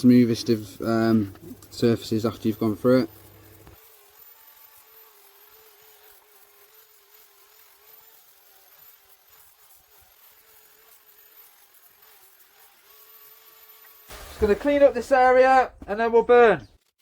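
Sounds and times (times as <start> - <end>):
electric sander buzzing on wood: 0.0 - 14.1.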